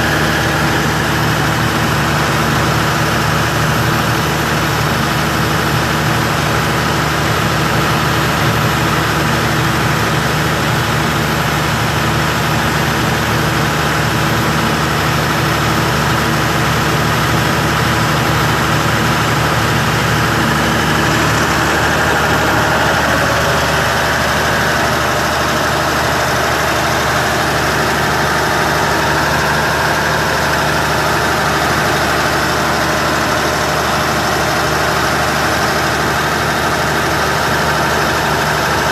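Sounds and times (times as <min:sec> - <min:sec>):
machinery humming and hissing: 0:00.0 - 0:38.9.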